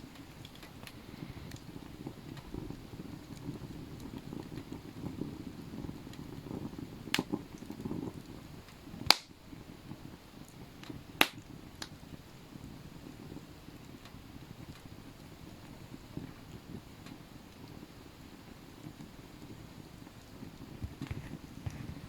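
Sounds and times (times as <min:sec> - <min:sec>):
campfire crackling: 0:00.0 - 0:22.0
campfire sharp pops: 0:00.1 - 0:21.8.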